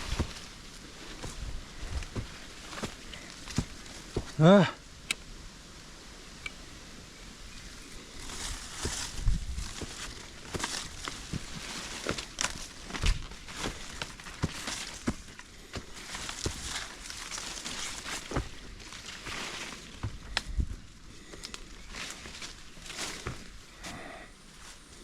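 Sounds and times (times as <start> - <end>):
footsteps crunching on dirt trail: 0.0 - 4.4, 7.9 - 25.0
leaves and undergrowth rustling: 0.0 - 25.0.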